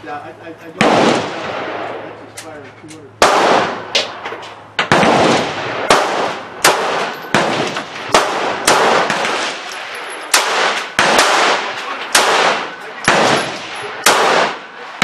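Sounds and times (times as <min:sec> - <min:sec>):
echoing gunshots: 0:00.8 - 0:02.2, 0:03.2 - 0:15.0.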